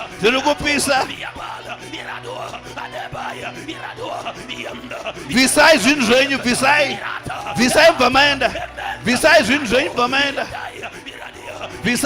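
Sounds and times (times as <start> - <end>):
background music with held tones: 0.0 - 12.0
congregation praying aloud: 0.0 - 12.0.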